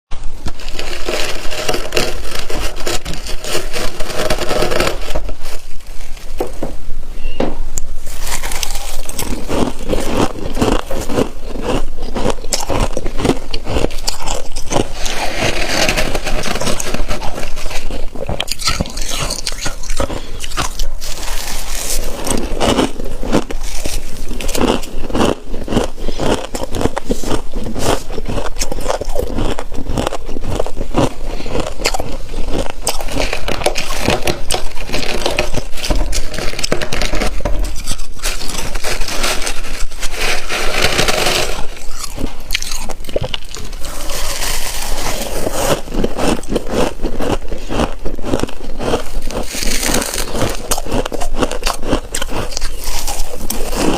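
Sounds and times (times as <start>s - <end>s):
scraping: 0.5s - 47.8s
frost being bitten and crunched: 8.0s - 53.9s.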